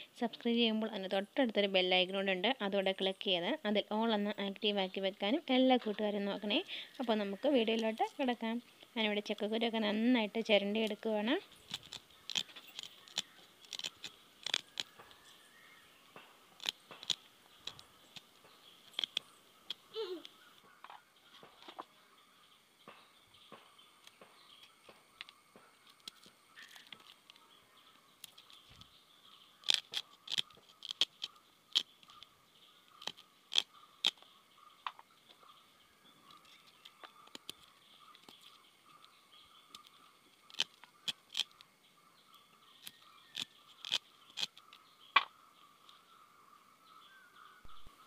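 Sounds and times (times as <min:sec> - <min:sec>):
seed husks crackling: 0:04.4 - 0:21.9, 0:23.5 - 0:46.0.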